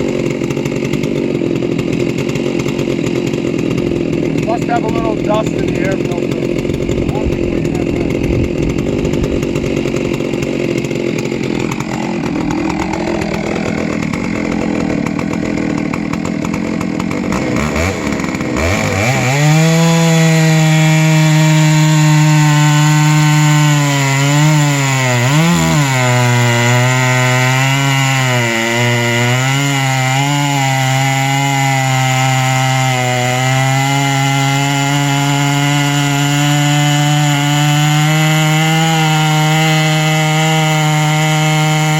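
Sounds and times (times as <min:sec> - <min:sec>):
chainsaw mill cutting log: 0:00.0 - 0:41.9.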